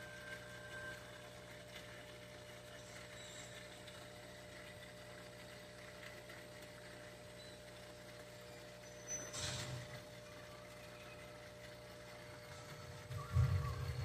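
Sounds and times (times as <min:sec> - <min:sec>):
aquarium filter pump humming: 0:00.0 - 0:14.0.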